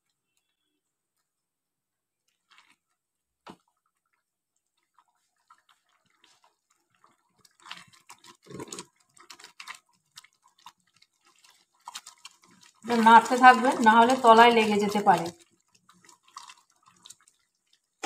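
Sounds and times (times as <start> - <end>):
gravy bubbling: 2.1 - 18.0
spatula stirring thick gravy: 2.1 - 18.0.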